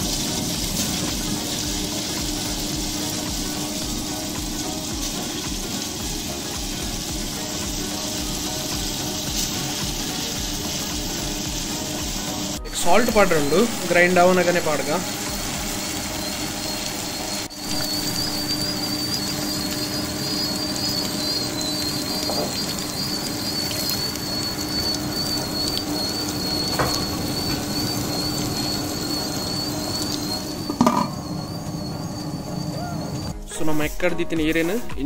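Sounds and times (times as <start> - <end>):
electric grinder motor whining: 0.0 - 33.4.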